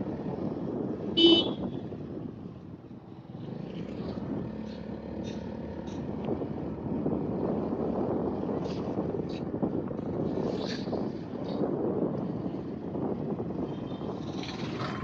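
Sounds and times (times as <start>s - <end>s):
road vehicle noise: 0.0s - 15.0s.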